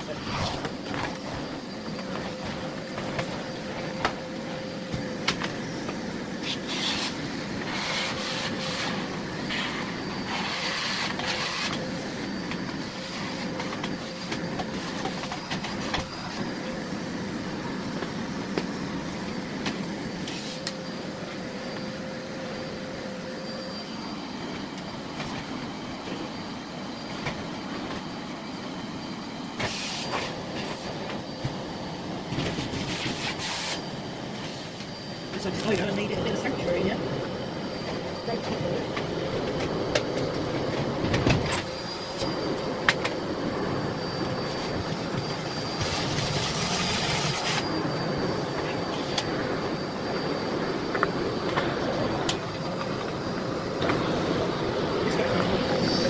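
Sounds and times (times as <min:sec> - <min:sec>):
vacuum cleaner whining: 0:00.0 - 0:56.0.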